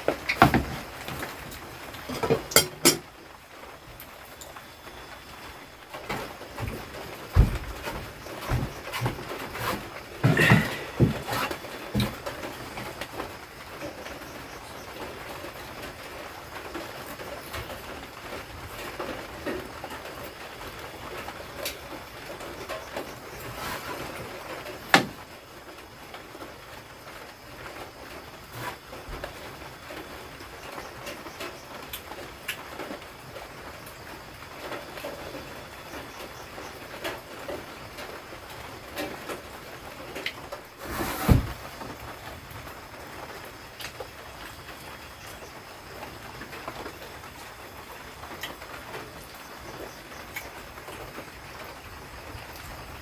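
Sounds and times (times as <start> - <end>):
drizzle pattering on thatched roof: 0.0 - 53.0.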